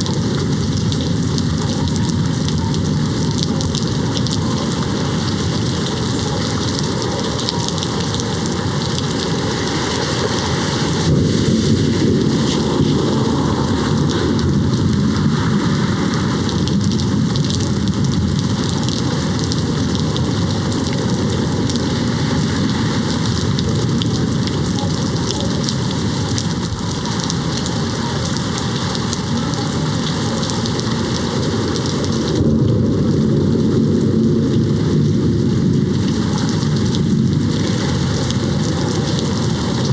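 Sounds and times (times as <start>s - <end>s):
heavy rain against a window: 0.0s - 39.9s
thunder rumbling: 0.0s - 39.9s.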